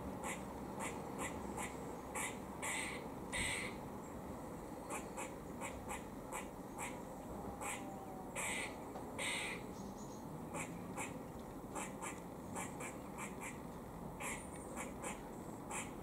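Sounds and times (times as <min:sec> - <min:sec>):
squirrel warning calls: 0:00.1 - 0:03.8, 0:04.8 - 0:16.0.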